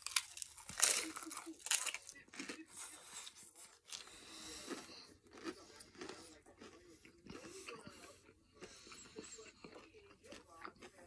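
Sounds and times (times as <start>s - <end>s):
chewing crunchy taco shell: 0.0s - 11.0s.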